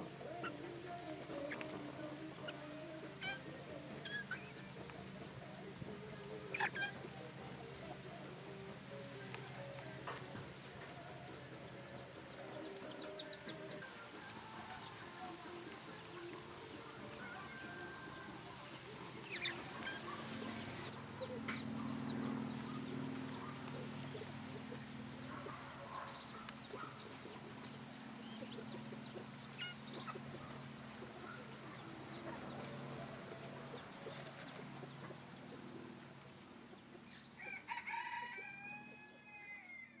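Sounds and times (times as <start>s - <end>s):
chicks clucking and peeping: 0.0s - 40.0s.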